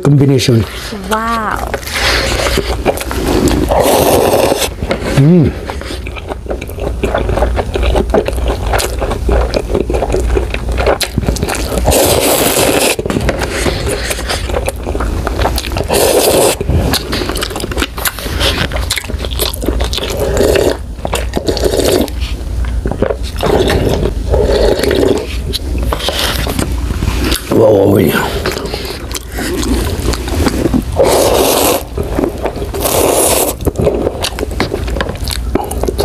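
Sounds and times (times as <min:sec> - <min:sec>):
wet mouth noises: 0:01.1 - 0:36.0
noodles being slurped: 0:01.8 - 0:22.4, 0:23.0 - 0:36.0.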